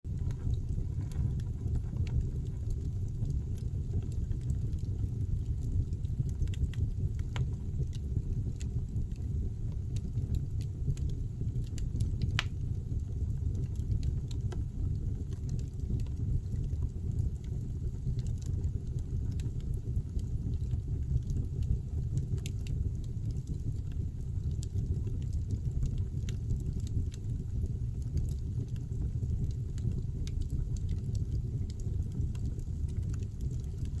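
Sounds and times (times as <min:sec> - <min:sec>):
fire flames rumbling: 0:00.1 - 0:34.0
firewood crackling and popping: 0:00.1 - 0:34.0.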